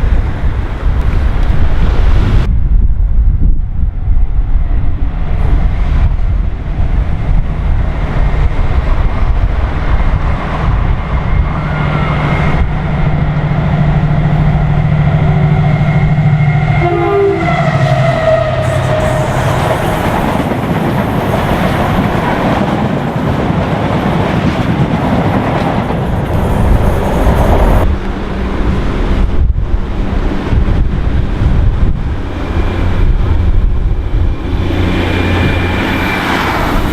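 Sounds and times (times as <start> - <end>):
diesel train rumbling past: 0.0 - 36.9.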